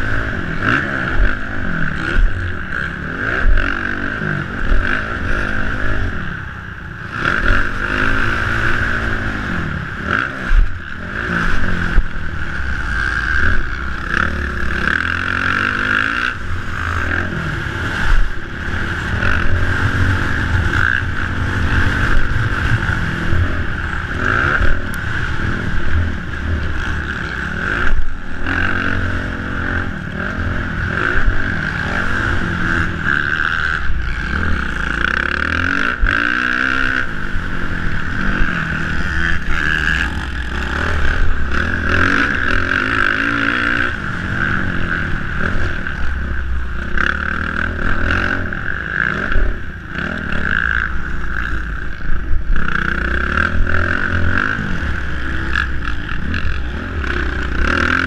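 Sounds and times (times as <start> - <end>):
motocross bike engine revving: 0.0 - 58.0
rushing wind noise: 0.0 - 58.0.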